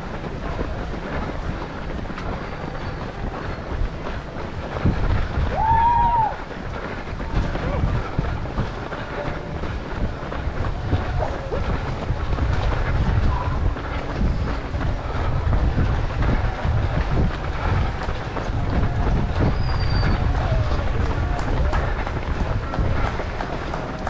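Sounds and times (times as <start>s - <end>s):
running footsteps: 0.0s - 24.0s
wind buffeting microphone: 0.0s - 24.0s.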